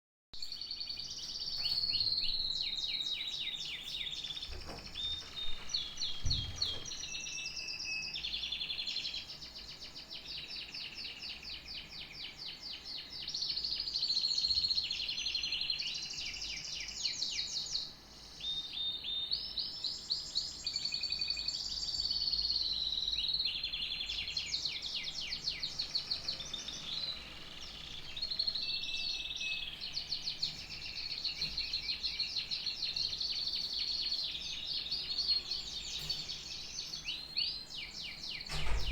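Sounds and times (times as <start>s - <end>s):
canary singing trills: 0.4s - 38.9s.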